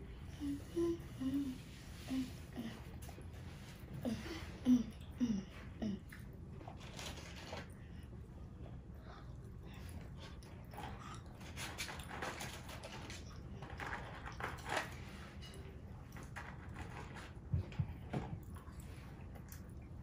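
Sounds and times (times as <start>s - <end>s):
child chewing food: 0.0s - 20.0s.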